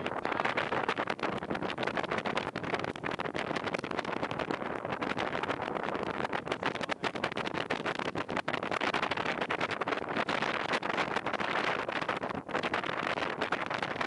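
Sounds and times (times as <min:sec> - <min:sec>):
wind gusting on microphone: 0:00.0 - 0:14.0.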